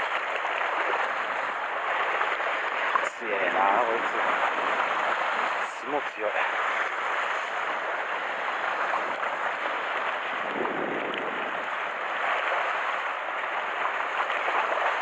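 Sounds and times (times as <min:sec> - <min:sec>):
sea water splashing against rocks: 0:00.0 - 0:15.0.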